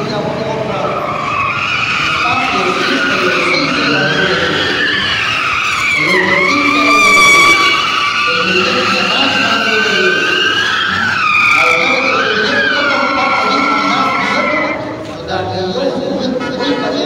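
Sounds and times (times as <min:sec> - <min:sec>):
car engine revving: 0:00.0 - 0:16.8
car tyres squealing: 0:00.0 - 0:17.0.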